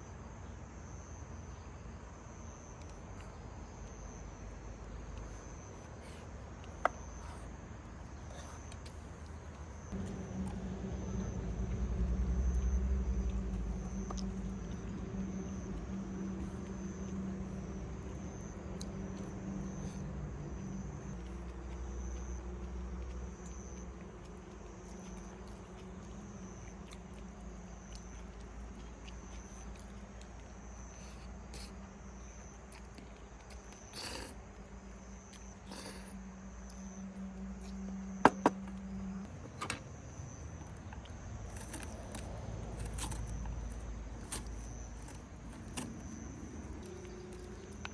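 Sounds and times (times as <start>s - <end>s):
crickets chirping: 0.0s - 47.9s
low droning hum: 3.0s - 47.9s.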